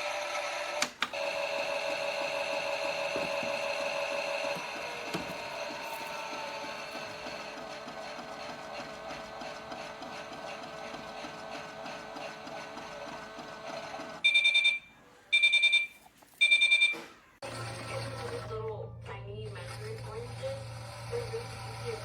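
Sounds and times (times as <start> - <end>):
toy washing machine whirring: 0.0 - 15.5, 17.4 - 18.6, 19.5 - 22.0.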